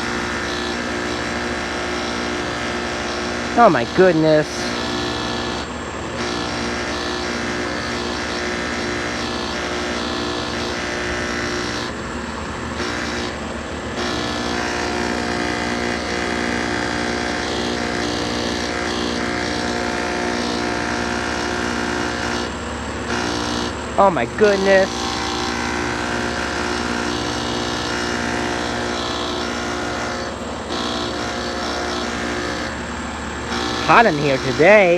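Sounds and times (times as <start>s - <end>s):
air conditioner compressor humming: 0.0s - 34.9s.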